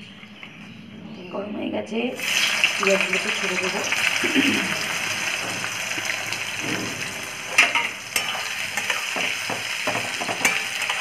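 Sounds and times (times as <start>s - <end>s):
onions sizzling in oil: 2.2s - 11.0s.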